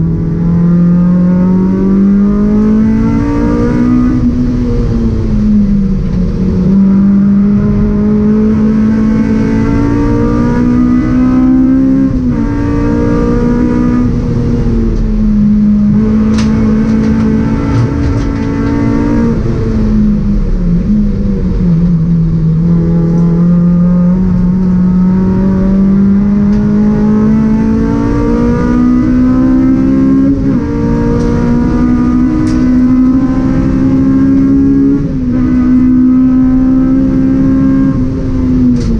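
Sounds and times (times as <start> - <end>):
race car engine running hard: 0.0 - 38.9
road and tyre noise: 0.0 - 38.9.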